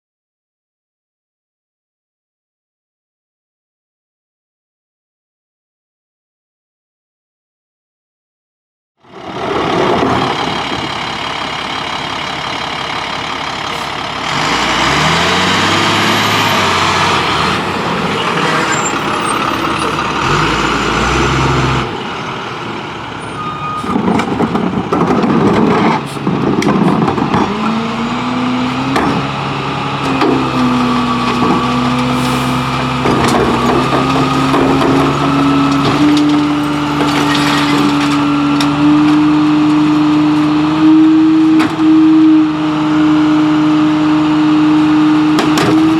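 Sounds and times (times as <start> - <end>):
garbage truck engine running: 9.1 - 45.9.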